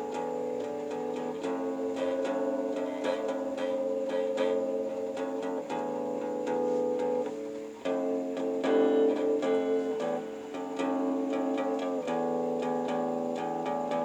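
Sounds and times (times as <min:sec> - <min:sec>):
electric guitar chords ringing: 0:00.0 - 0:14.0.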